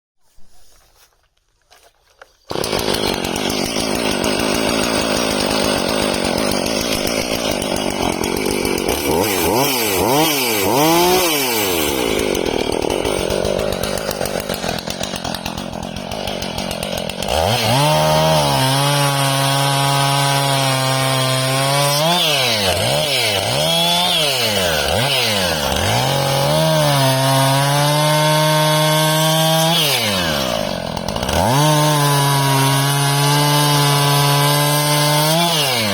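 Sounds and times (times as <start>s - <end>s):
chainsaw cutting wood: 1.8s - 35.9s.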